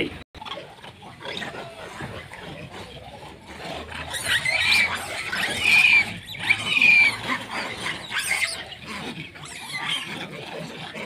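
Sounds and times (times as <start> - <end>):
monkeys screeching: 0.4 - 11.0.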